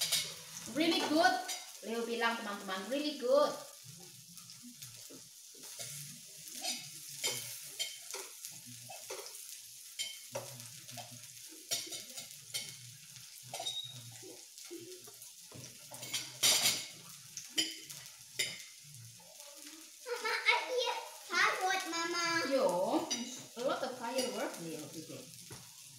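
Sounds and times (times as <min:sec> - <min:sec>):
meat sizzling on grill: 0:00.0 - 0:25.9.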